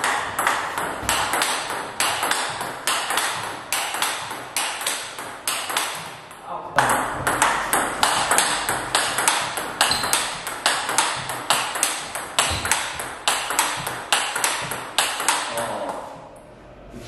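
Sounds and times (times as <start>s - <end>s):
ping pong ball bouncing on table: 0.0s - 16.0s
ping pong ball hitting bats: 0.0s - 16.1s.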